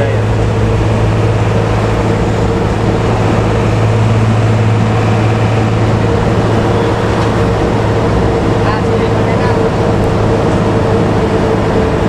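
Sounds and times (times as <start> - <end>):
bus diesel engine droning: 0.0 - 12.0
road noise: 0.0 - 12.0.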